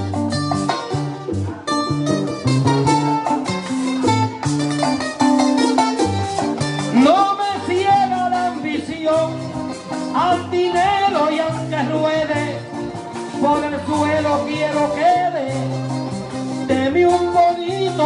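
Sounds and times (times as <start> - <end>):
acoustic guitars strumming chords: 0.0 - 18.0
bass line: 0.0 - 18.0
sliding lead melody: 0.0 - 18.0.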